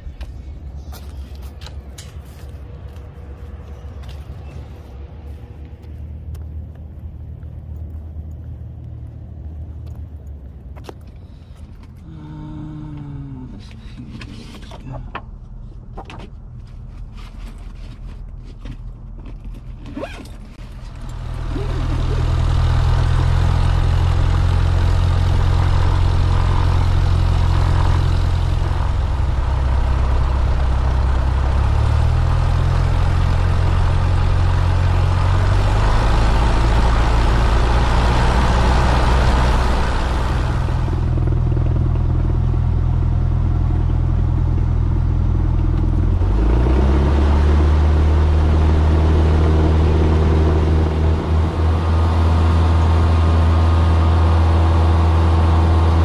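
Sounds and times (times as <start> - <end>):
light airplane engine droning: 0.0 - 15.6, 17.0 - 47.2.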